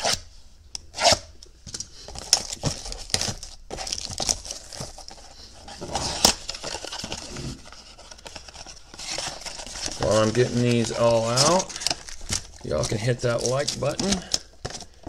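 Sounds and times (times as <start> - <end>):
plastic shrink wrap crinkling: 1.9 - 15.0
foil packs rustling: 2.0 - 15.0.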